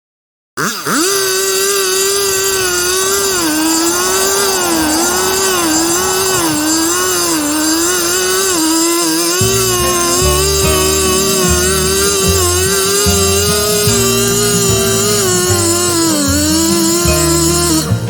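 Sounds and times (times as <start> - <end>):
small gas engine revving: 0.6 - 18.0.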